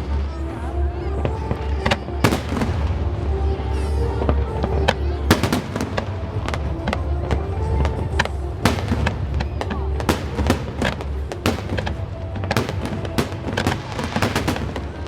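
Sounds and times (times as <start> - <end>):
deep rumble: 0.0 - 15.0
fireworks bangs: 0.0 - 15.0
music: 0.0 - 15.0.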